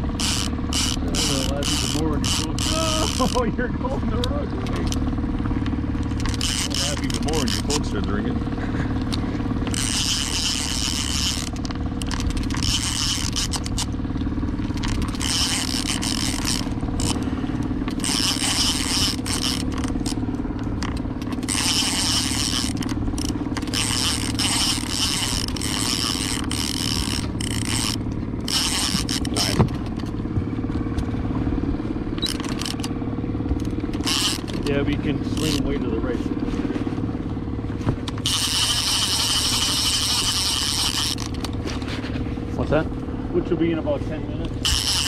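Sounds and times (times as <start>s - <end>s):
fishing reel cranking: 0.0s - 31.1s, 32.1s - 36.2s, 38.0s - 42.0s, 44.4s - 45.0s
boat motor running: 0.0s - 45.0s.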